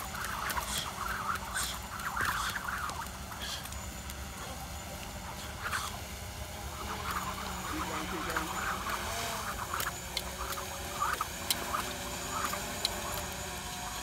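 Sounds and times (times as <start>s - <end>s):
jump rope slapping concrete: 0.0s - 5.9s, 6.8s - 13.9s
outdoor rumble: 0.0s - 14.0s.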